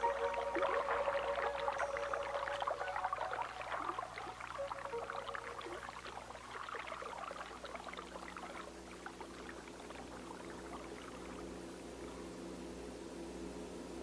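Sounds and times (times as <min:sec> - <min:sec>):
crackling trickling water: 0:00.0 - 0:12.5
steady low hum: 0:00.0 - 0:14.0.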